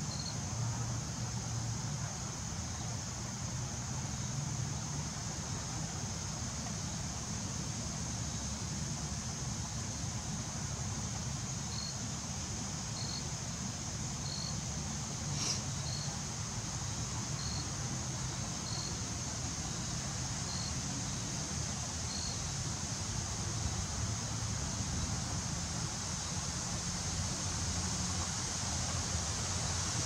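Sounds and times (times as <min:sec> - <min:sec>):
steady high hiss: 0:00.0 - 0:30.0.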